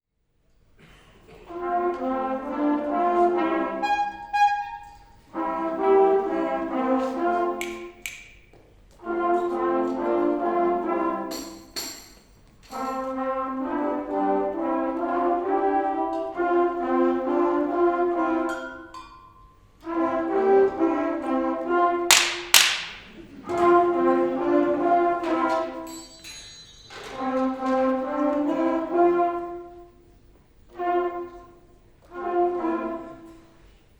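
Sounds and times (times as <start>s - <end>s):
brass band playing: 1.3s - 8.2s, 9.0s - 12.0s, 12.7s - 19.0s, 19.8s - 26.0s, 27.0s - 33.7s.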